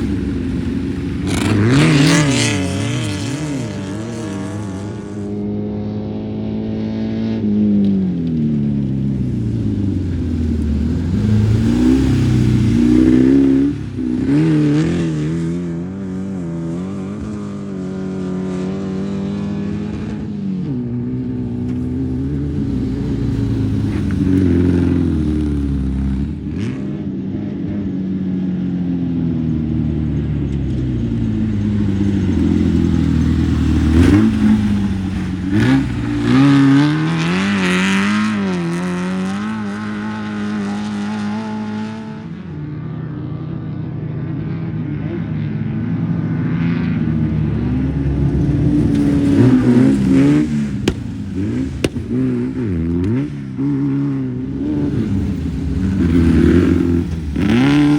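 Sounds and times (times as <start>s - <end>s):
race car engines revving and passing: 0.0s - 57.9s.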